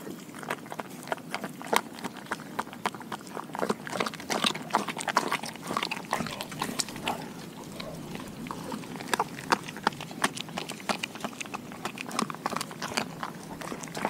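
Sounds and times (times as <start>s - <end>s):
dog chewing raw food: 0.0s - 14.0s.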